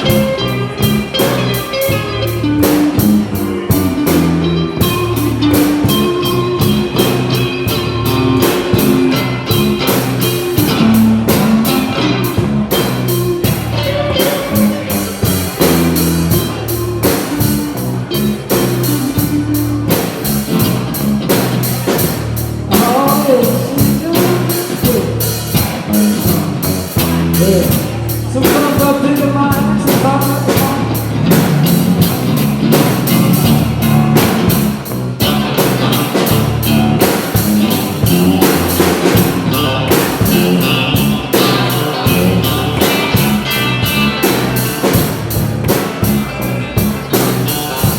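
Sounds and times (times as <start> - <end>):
drum kit beat: 0.0 - 47.9
electric guitar: 0.0 - 47.9.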